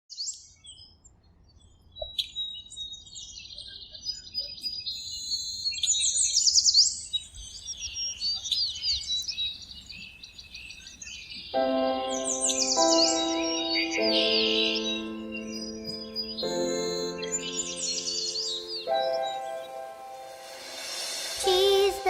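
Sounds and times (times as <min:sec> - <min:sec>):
birds singing and chirping: 0:01.6 - 0:20.8.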